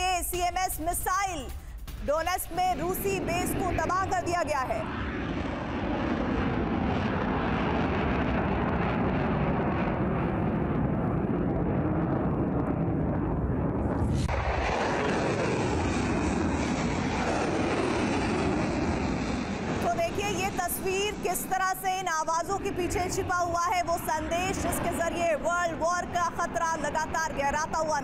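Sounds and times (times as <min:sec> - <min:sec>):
rocket motor rumble: 0:02.8 - 0:28.0.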